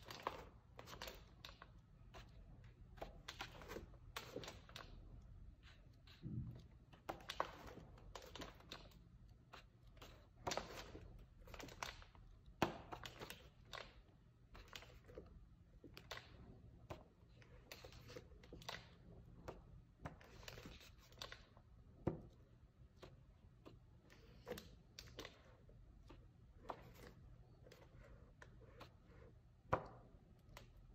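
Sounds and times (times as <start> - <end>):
book pages turning: 0.0 - 30.9.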